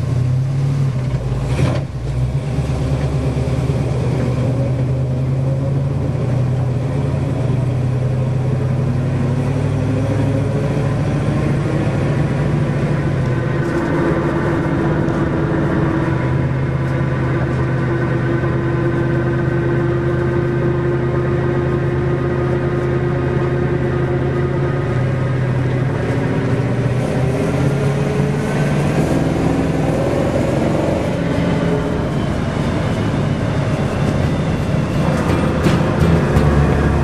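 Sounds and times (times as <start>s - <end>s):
car engine while driving: 0.0s - 37.0s.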